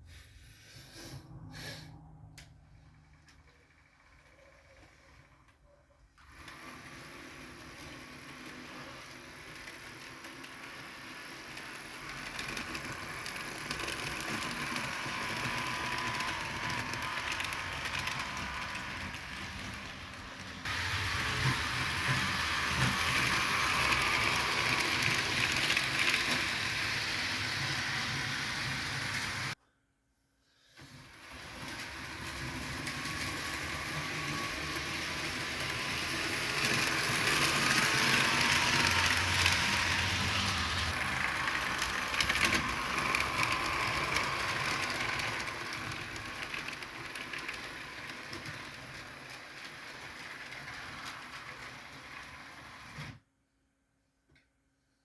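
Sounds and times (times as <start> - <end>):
model train whirring and clattering: 2.4 - 29.6, 30.8 - 53.2.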